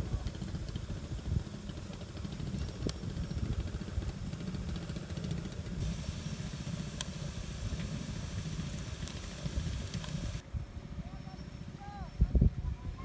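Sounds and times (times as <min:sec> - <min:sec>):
steady hiss: 0:00.0 - 0:10.4
wind buffeting microphone: 0:00.0 - 0:11.0, 0:12.0 - 0:13.0.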